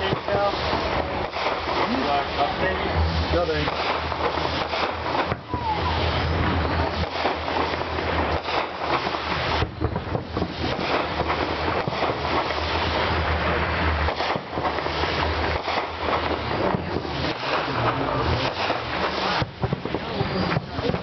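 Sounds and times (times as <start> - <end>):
low rumble: 0.0 - 21.0
wind buffeting microphone: 0.0 - 21.0.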